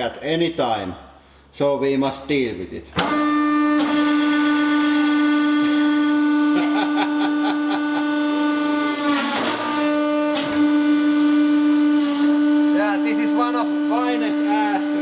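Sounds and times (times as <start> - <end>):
hydraulic press droning whine: 2.9 - 15.0.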